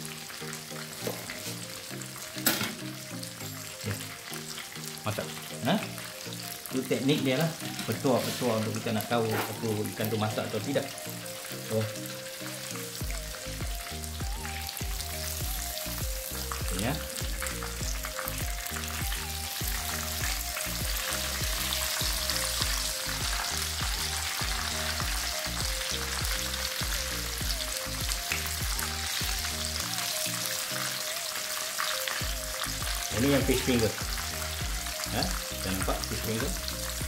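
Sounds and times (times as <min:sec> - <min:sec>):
fish deep-frying in oil: 0:00.0 - 0:37.0.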